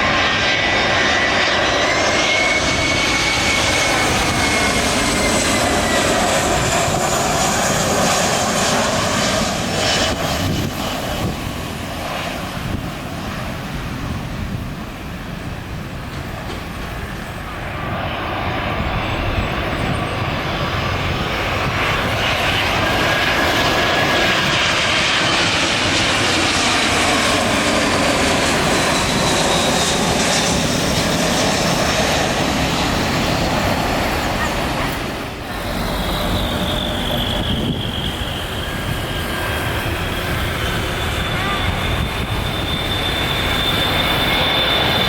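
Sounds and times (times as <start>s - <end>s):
jet engines passing low: 0.0s - 45.0s.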